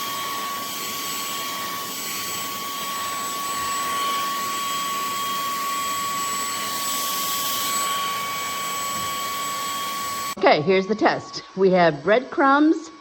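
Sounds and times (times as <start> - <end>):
handheld vacuum running: 0.0 - 10.8.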